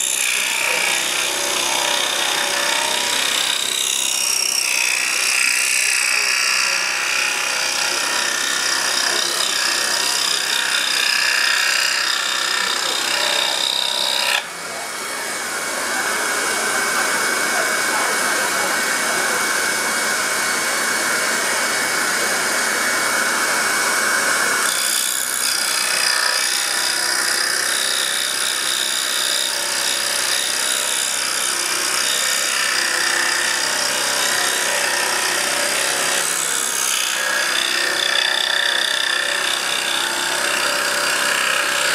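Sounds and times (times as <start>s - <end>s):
scroll saw cutting wood: 0.0s - 41.9s.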